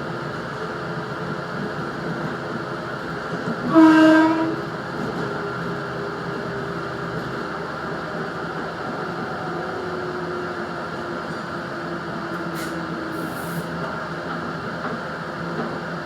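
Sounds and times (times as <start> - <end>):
diesel railcar engine drone: 0.0 - 16.0
train wheels on rail: 0.0 - 16.0.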